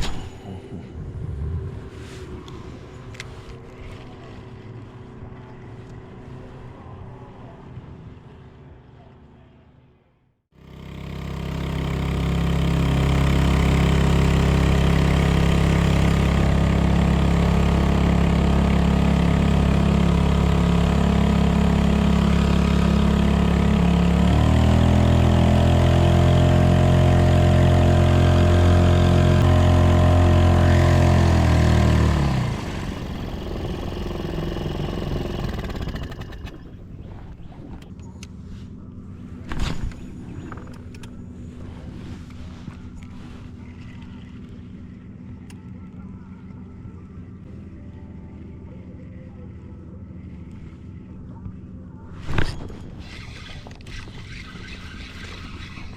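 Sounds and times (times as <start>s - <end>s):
outboard motor running: 10.5s - 55.9s.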